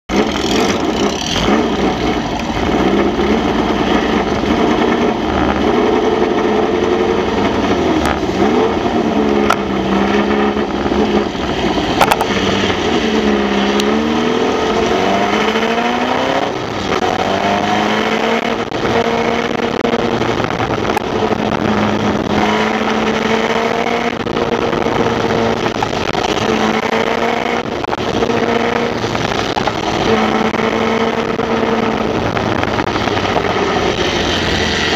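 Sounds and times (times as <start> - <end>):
air-cooled engine revving and idling: 0.1 - 34.9
other engines running nearby: 0.1 - 34.9.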